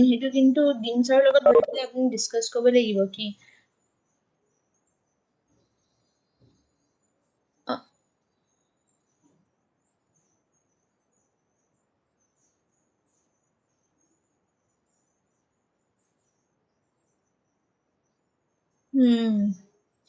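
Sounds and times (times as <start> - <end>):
faint high-pitched chirping: 0.0 - 20.0.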